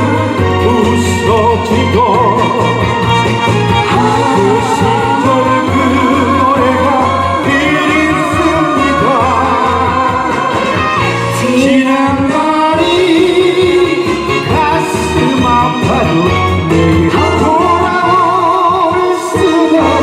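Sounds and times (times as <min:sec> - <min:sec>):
trot song over backing track: 0:00.0 - 0:20.0.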